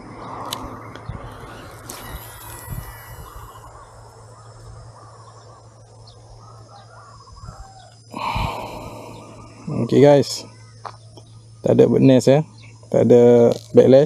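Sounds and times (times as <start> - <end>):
faint bird calls: 0.0 - 13.5.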